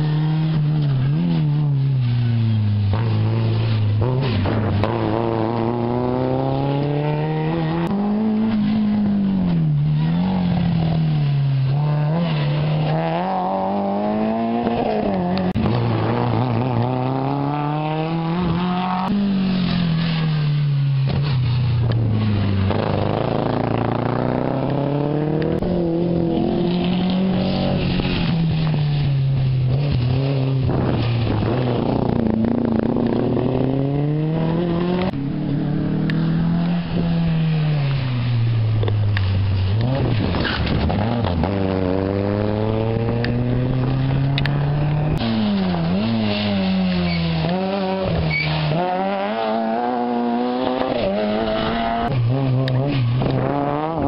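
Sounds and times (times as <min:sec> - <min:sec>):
rally car engines revving past: 0:00.0 - 0:54.0.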